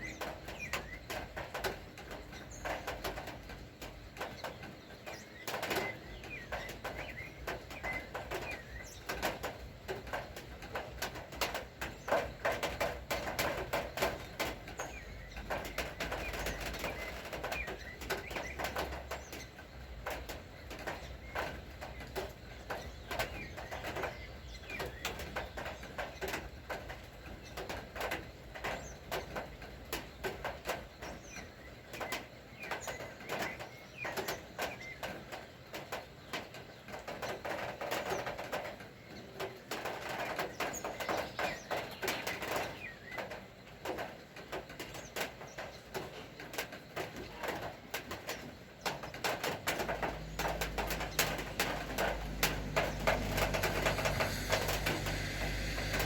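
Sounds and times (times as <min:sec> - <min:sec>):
birds calling: 0:00.0 - 0:56.0
rain dripping: 0:00.0 - 0:56.0.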